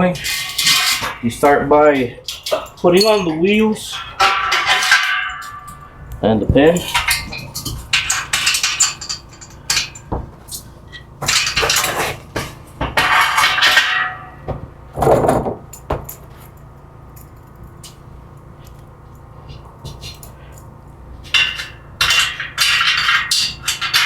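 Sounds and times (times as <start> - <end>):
metal scaffold parts clinking: 0.0 - 18.1, 19.5 - 24.0.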